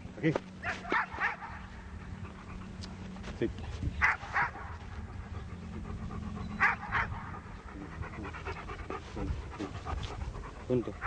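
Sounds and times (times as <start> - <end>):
dog panting: 0.6 - 11.0.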